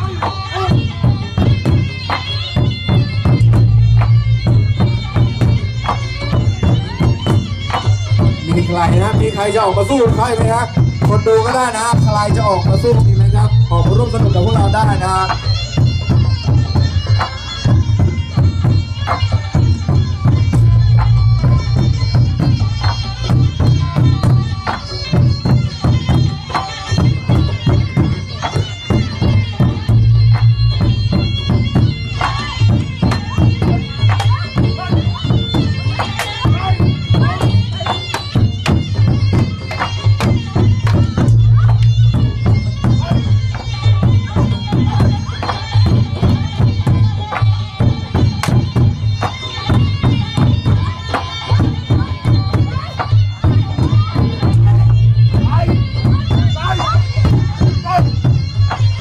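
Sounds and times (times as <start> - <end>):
barrel drums beating: 0.0 - 59.0
shrill reedy wind melody: 0.0 - 59.0.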